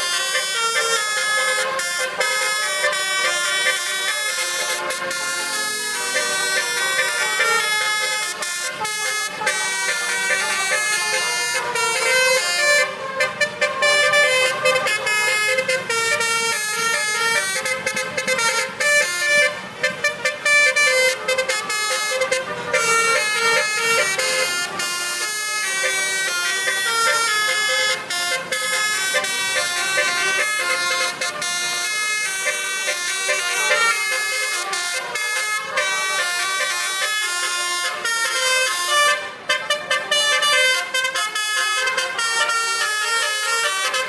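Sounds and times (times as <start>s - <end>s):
truck air horns playing a tune: 0.0s - 44.0s.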